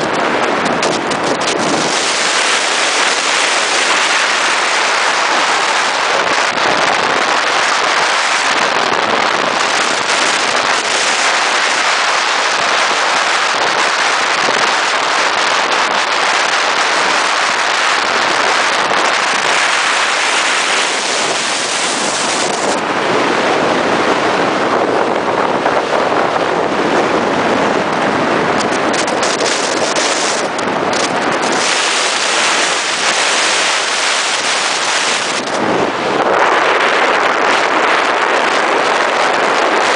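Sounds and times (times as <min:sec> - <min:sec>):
truck wind and road noise: 0:00.0 - 0:39.9.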